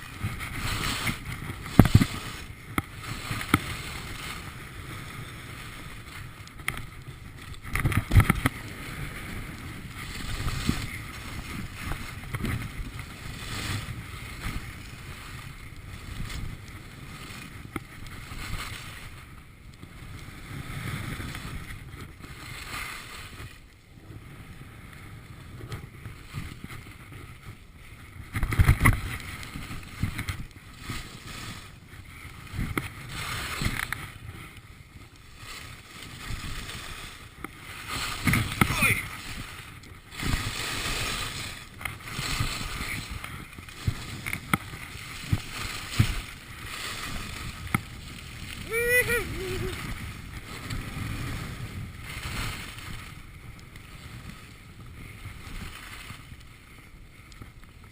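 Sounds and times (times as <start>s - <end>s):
skis scraping over snow: 0.0s - 57.9s
wind on microphone: 0.0s - 57.9s.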